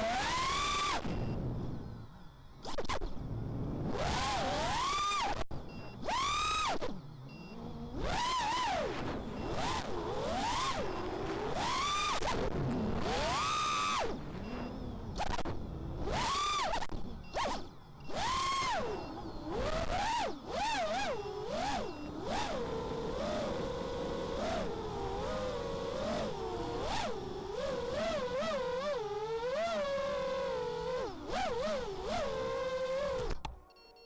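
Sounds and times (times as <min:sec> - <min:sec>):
quadcopter motors whining: 0:00.0 - 0:33.5.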